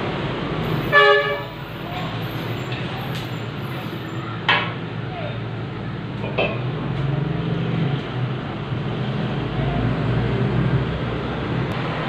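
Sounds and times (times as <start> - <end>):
engine hum: 0.0 - 12.0
street traffic: 0.0 - 12.0.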